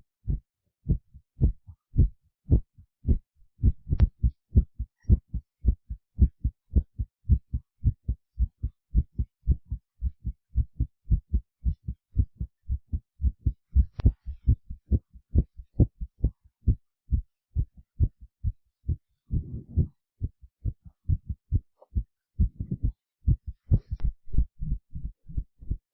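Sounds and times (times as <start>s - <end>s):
heartbeat thumps: 0.2s - 25.9s.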